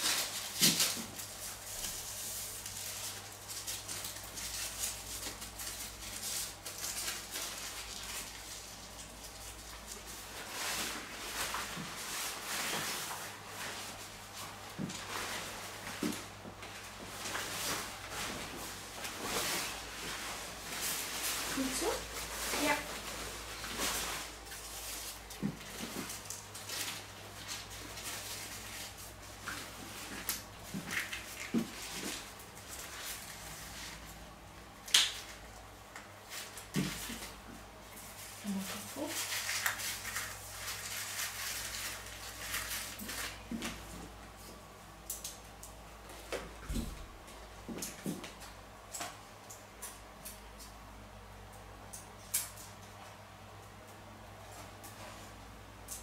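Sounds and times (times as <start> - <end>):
comb rustling through hair: 0.0 - 34.4, 35.1 - 46.4.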